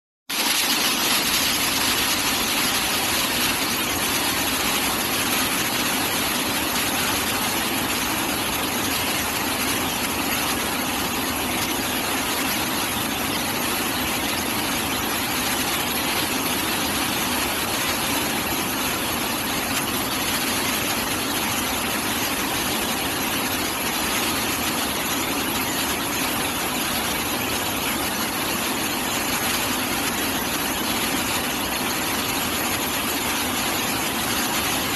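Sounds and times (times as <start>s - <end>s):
rock drilling machine running: 0.4s - 34.9s.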